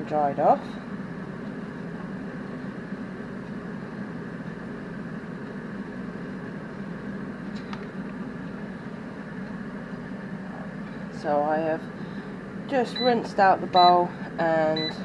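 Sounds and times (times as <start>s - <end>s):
air fryer fan whirring: 0.0s - 15.0s.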